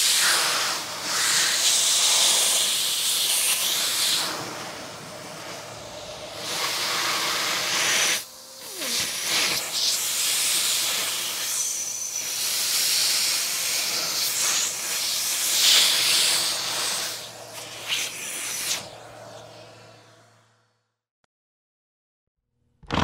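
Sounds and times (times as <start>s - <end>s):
compressed air hissing: 0.0s - 19.0s.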